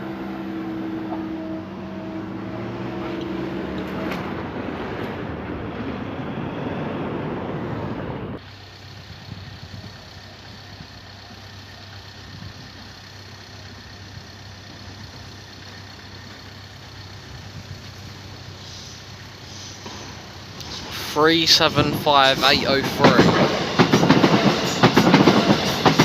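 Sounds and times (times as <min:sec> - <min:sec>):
electric train passing at speed: 0:00.0 - 0:26.0
traffic hum: 0:00.0 - 0:26.0.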